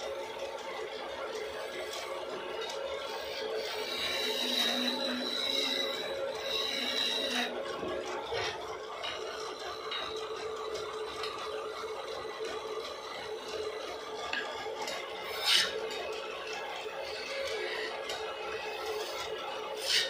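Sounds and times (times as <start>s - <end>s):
lathe hum: 0.0s - 20.0s
chisel scraping spinning wood: 0.1s - 20.0s.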